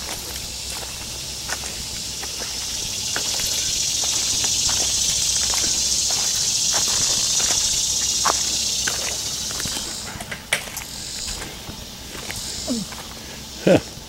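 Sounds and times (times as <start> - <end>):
footsteps crunching on ground: 0.0 - 14.0
high insect buzz: 0.0 - 14.0.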